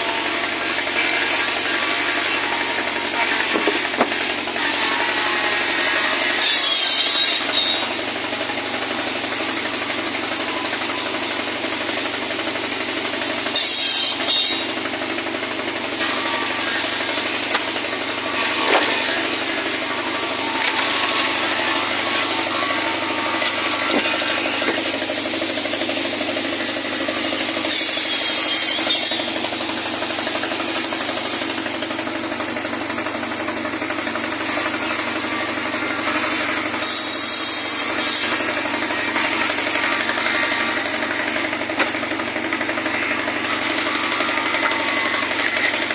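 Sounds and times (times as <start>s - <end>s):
saw machine cutting wood: 0.0s - 45.9s.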